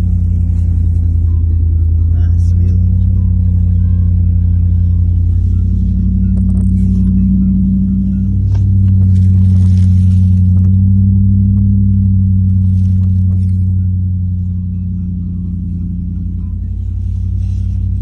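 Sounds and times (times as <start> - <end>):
car engine drone from cabin: 0.0 - 18.0.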